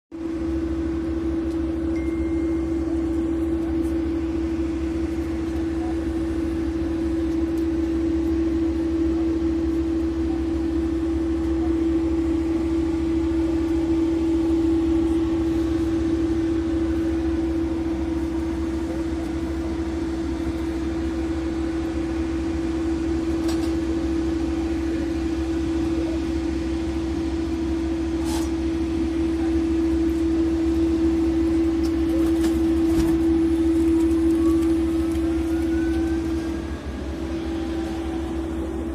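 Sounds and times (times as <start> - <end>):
machinery low rumble and hum: 0.1 - 38.9.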